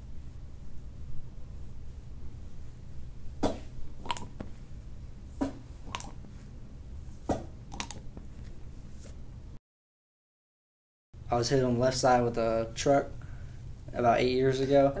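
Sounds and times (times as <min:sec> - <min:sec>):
low steady hum: 0:00.0 - 0:09.6, 0:11.2 - 0:15.0.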